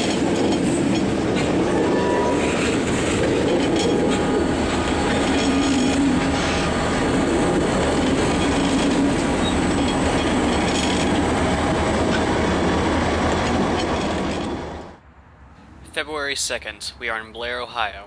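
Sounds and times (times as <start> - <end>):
freight cars rolling on rails: 0.0 - 15.0
diesel locomotives: 0.0 - 18.0.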